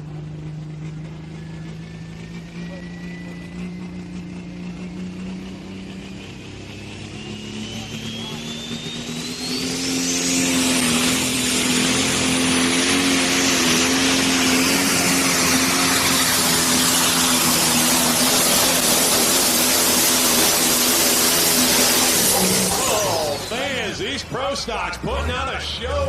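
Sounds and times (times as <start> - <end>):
high turbo whine: 0.0 - 26.0
tractor engine at full power: 0.0 - 26.0.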